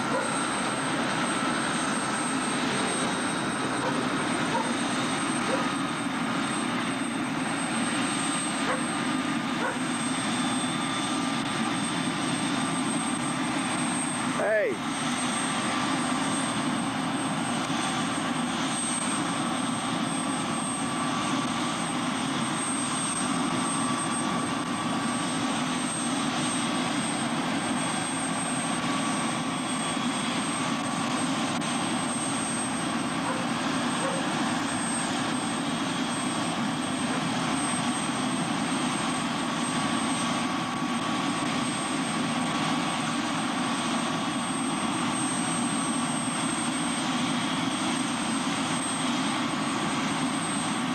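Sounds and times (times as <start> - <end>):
helicopter engine and rotor: 0.0 - 50.9.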